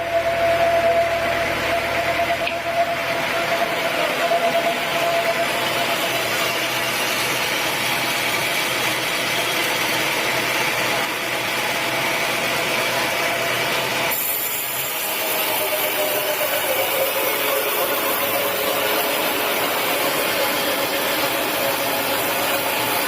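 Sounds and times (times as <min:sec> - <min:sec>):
saw whine: 0:00.0 - 0:23.0
sawmill saw cutting log: 0:00.0 - 0:23.0.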